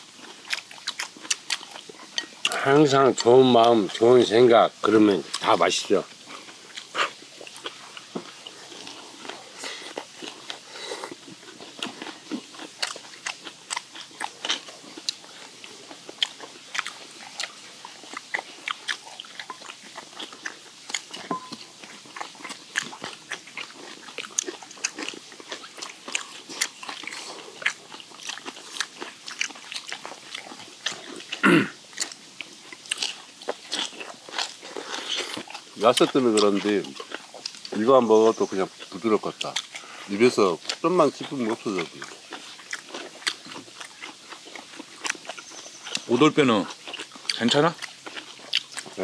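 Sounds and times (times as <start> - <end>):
chewing and crunching food: 0.0 - 49.0.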